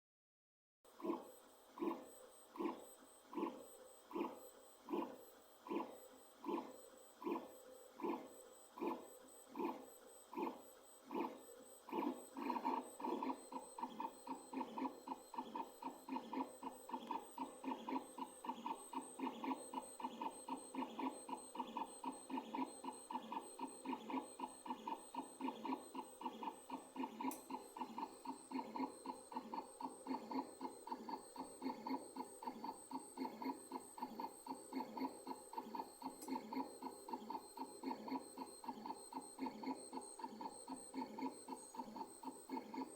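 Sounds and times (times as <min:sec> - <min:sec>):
stepper motors whining in pulses: 0:01.0 - 0:42.9.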